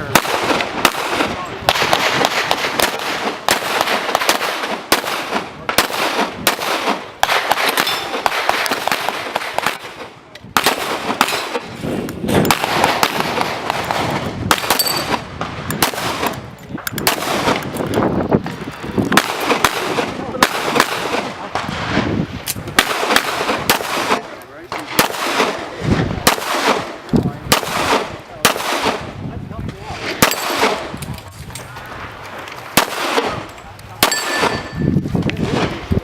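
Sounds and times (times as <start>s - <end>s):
pistol shots with echo: 0.0s - 11.7s, 12.3s - 17.8s, 19.1s - 21.8s, 22.5s - 29.1s, 30.0s - 31.0s, 32.7s - 35.7s.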